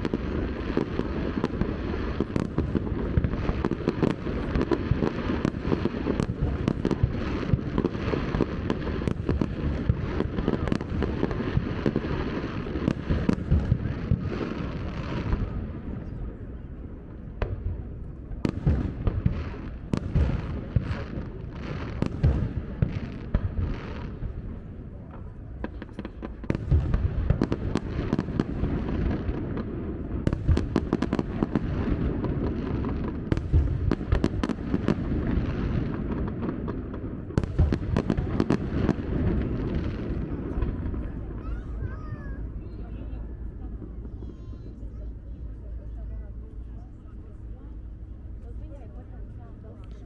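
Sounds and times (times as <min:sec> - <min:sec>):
continuous low rumble: 0:00.0 - 0:50.0
fireworks bangs and crackles: 0:00.0 - 0:50.0.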